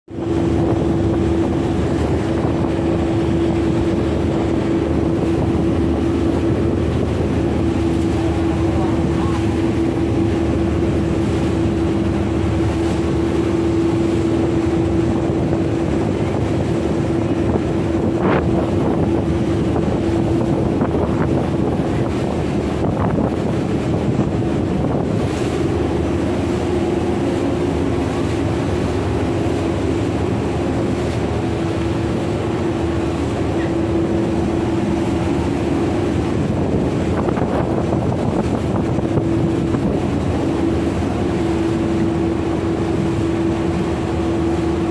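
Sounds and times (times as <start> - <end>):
rush of boat wake: 0.0 - 44.9
boat engine humming: 0.1 - 44.9
wind buffeting microphone: 0.1 - 44.9.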